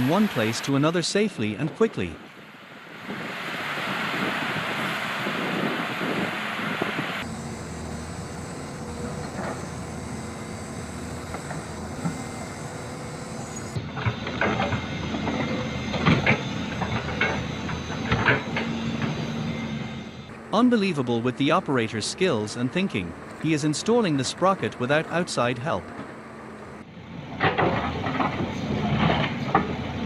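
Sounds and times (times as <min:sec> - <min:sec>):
heavy machinery engine running: 0:02.3 - 0:30.0.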